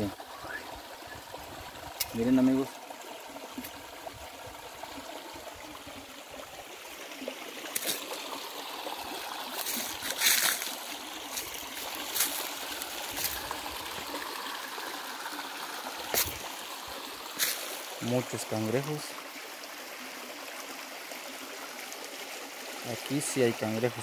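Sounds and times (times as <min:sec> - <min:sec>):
water trickling over stones: 0:00.0 - 0:24.0.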